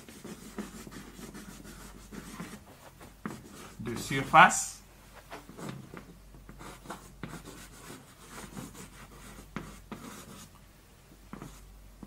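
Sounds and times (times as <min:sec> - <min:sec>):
chalk scratching on blackboard: 0:00.0 - 0:04.3, 0:05.3 - 0:10.5, 0:11.3 - 0:11.6.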